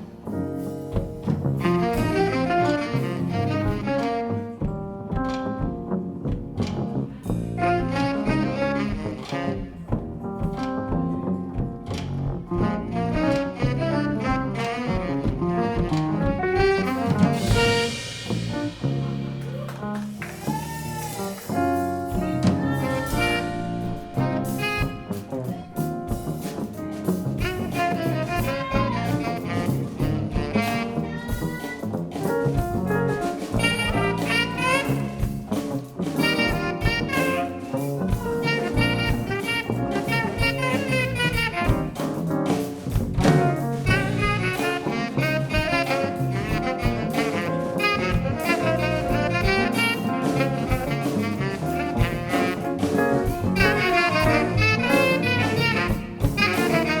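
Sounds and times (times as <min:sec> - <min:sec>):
bass: 0:00.0 - 0:57.0
live jazz-funk band: 0:00.0 - 0:57.0
steady drums: 0:00.0 - 0:57.0
saxophone and brass lines: 0:01.6 - 0:04.8, 0:07.6 - 0:10.6, 0:12.6 - 0:19.3, 0:20.2 - 0:57.0.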